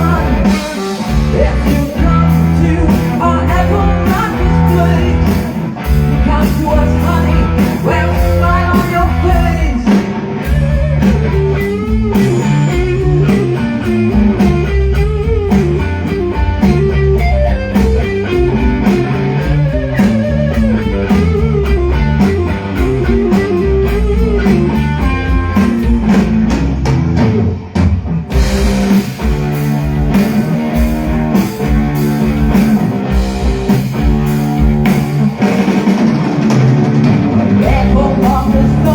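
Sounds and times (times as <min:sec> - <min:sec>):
electric guitar melody: 0:00.0 - 0:38.9
rock band playing live: 0:00.0 - 0:38.9.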